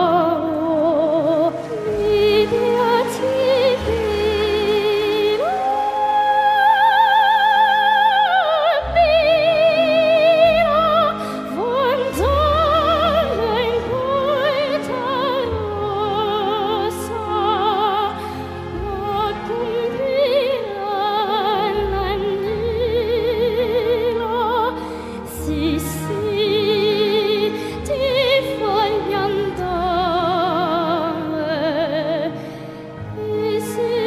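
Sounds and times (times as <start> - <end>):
operatic singing: 0.0 - 34.0.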